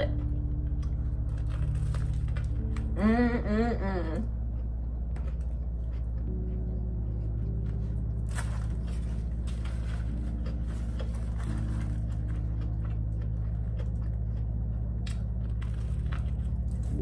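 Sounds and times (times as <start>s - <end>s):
background music with held chords: 0.0s - 17.0s
chewing and crunching sandwich: 0.0s - 17.0s.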